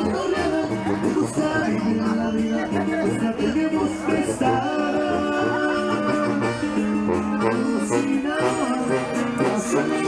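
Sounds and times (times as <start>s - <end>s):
accordion melody: 0.0s - 10.0s
steady bass line: 0.0s - 10.0s.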